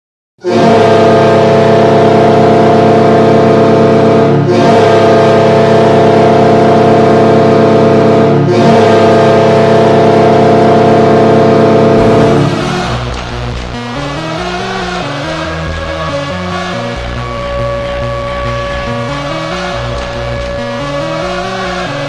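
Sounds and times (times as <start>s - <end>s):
arena goal horn blasts: 0.4s - 13.2s, 13.9s - 22.0s.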